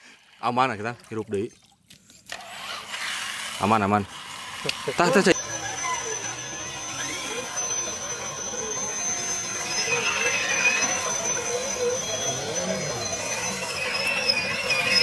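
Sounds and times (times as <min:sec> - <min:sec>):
electric motor whining: 0:02.3 - 0:15.0.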